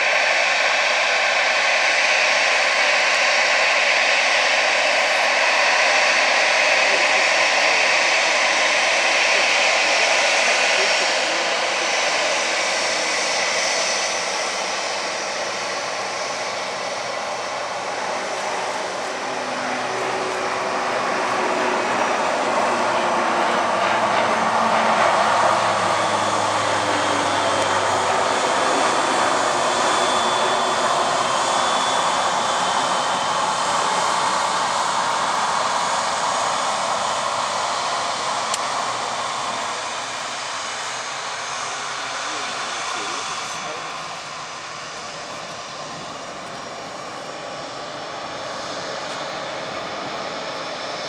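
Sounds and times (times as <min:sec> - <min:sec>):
jet airliner passing by: 0:00.0 - 0:51.0.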